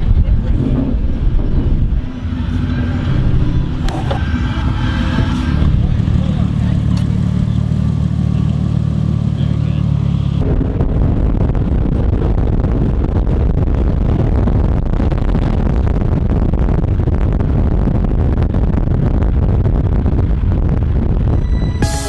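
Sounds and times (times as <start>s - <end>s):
car rumbling on the move: 0.0s - 22.0s.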